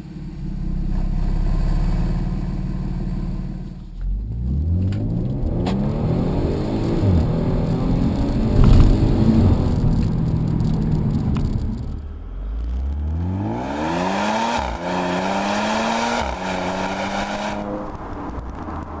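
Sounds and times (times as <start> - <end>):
car exhaust accelerating: 0.0 - 19.0.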